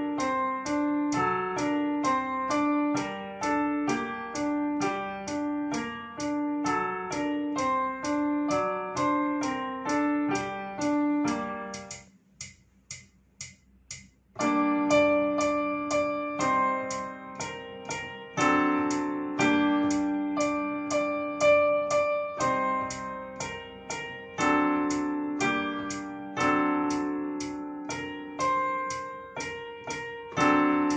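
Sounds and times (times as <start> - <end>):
piano keyboard music: 0.0 - 12.1, 14.4 - 30.9.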